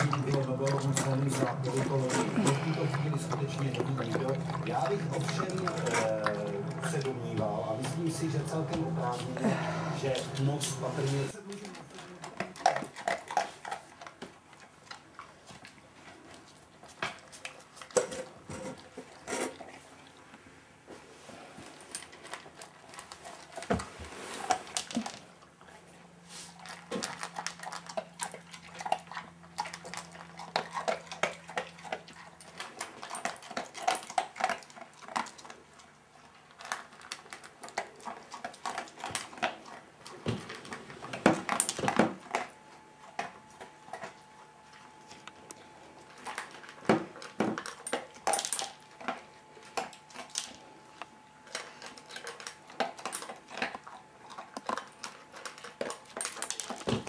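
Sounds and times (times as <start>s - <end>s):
dog crunching kibble: 0.0s - 20.4s, 21.6s - 57.0s.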